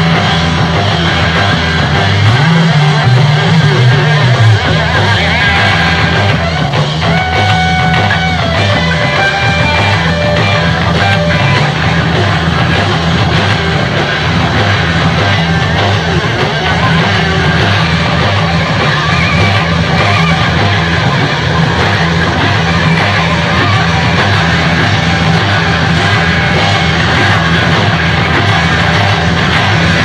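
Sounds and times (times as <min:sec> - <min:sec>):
loud rock music: 0:00.0 - 0:30.0.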